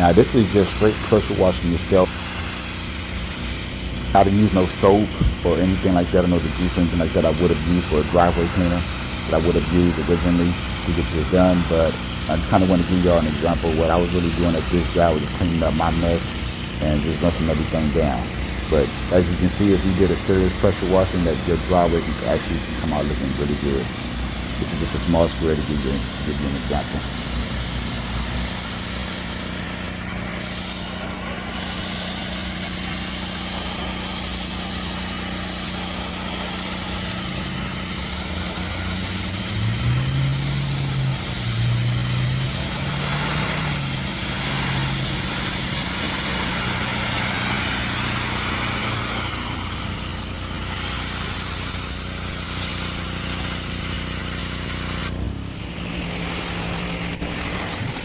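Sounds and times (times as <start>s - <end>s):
pressure washer running: 0.0s - 58.0s
water spray hissing on concrete: 0.0s - 58.0s.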